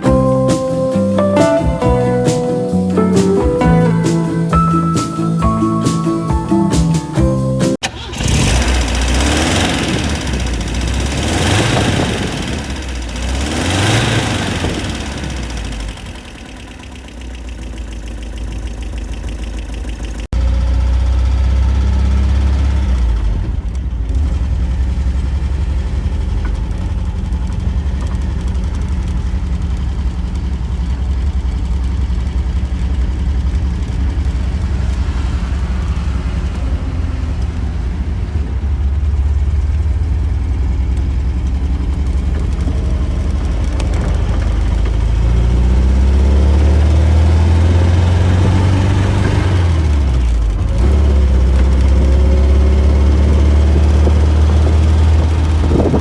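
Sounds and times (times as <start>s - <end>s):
car engine running: 7.8s - 56.0s.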